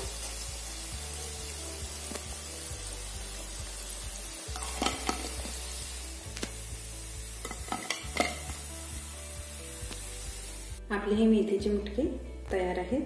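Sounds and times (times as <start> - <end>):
food sizzling in hot oil: 0.0 - 10.9.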